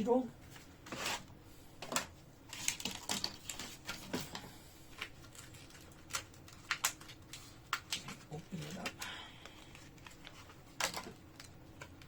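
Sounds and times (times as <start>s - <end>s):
hands handling packaging: 0.5s - 12.0s.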